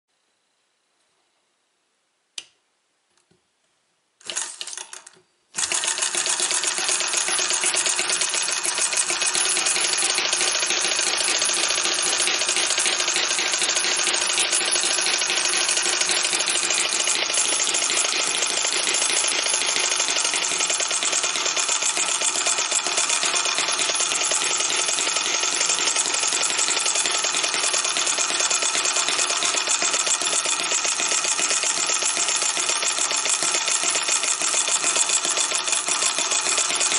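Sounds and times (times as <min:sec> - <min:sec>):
model engine running: 0:05.6 - 0:36.9.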